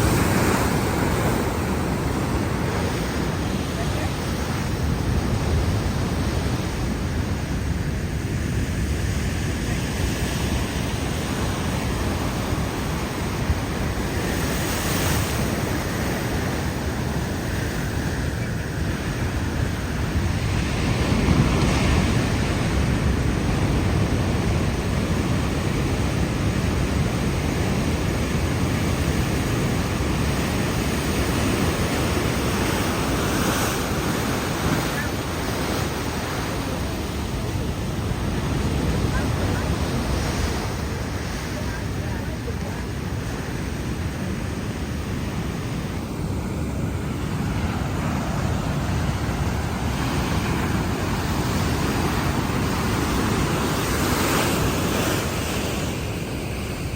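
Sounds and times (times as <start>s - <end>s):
ocean waves breaking: 0.0s - 56.9s
wind buffeting microphone: 0.0s - 56.9s.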